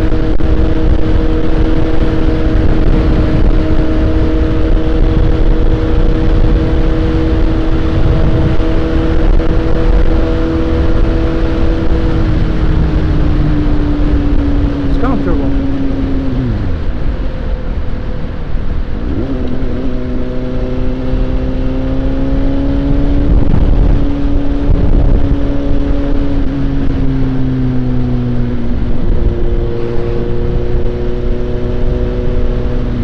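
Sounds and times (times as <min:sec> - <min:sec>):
motorcycle engine running: 0:00.0 - 0:33.0
wind noise: 0:00.0 - 0:33.0.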